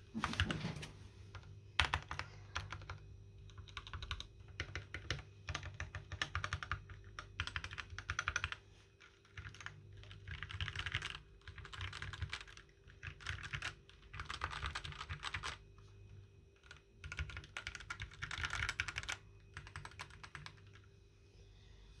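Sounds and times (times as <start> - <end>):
mechanical keyboard typing: 1.8 - 15.6, 16.6 - 20.9.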